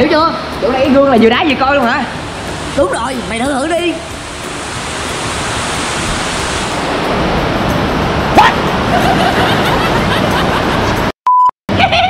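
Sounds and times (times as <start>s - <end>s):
running water rushing: 0.3s - 11.1s.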